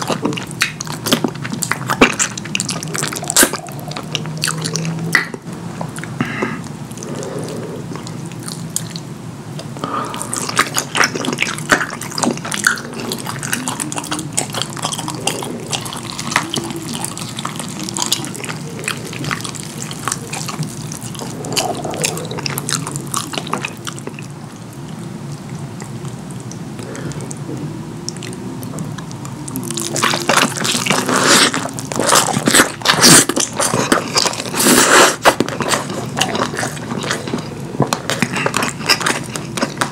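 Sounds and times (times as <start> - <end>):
wet chewing and mouth sounds: 0.0 - 39.9.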